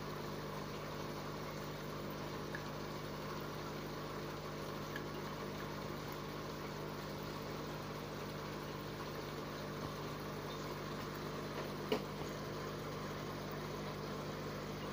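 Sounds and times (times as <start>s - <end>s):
aquarium pump humming: 0.0s - 14.9s.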